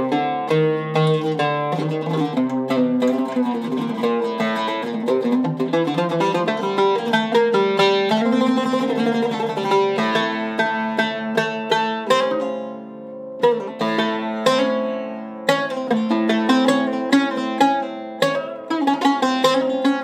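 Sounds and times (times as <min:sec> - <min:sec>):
oud plucked melody: 0:00.0 - 0:20.0.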